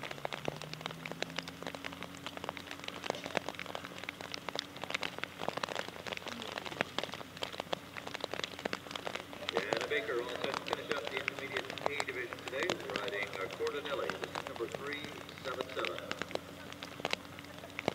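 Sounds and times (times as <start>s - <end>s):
faint low hum: 0.0s - 17.9s
rain patter: 0.0s - 17.9s.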